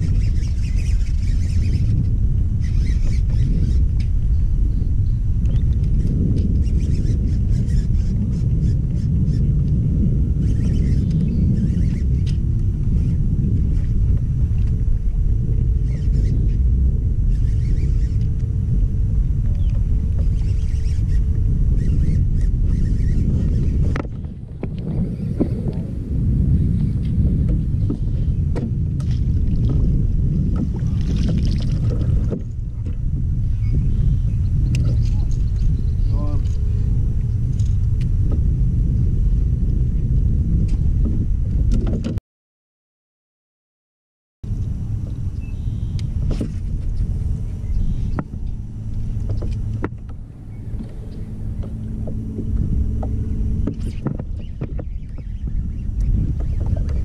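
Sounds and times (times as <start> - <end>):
wind rumble on microphone: 0.0 - 42.2, 44.4 - 57.0.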